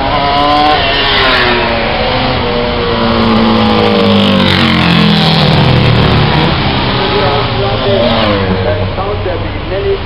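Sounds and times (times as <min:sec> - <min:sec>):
racing motorcycle engine approaching: 0:00.0 - 0:09.2.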